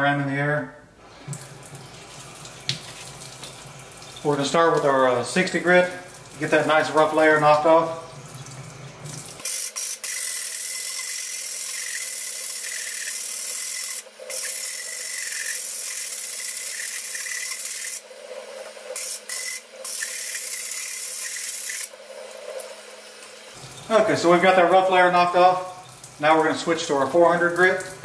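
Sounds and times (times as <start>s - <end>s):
running water: 1.0s - 28.0s.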